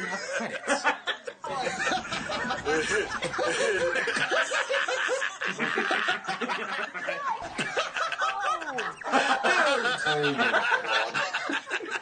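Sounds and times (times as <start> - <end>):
men laughing: 0.0 - 12.0.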